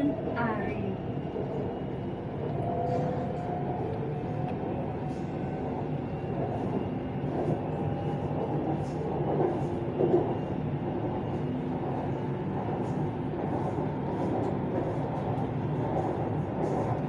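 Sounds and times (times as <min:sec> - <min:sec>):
train rumbling in motion: 0:00.0 - 0:17.0.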